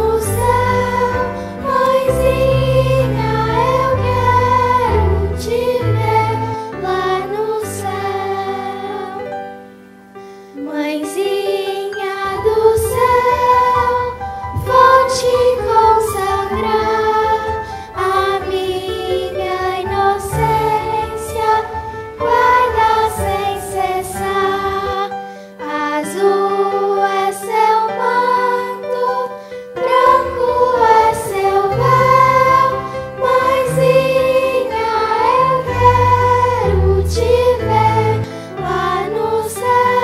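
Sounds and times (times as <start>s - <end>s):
sustained low accompaniment: 0.0s - 8.9s, 12.2s - 25.1s, 29.8s - 40.0s
children's choir singing a hymn: 0.0s - 9.8s, 10.5s - 40.0s.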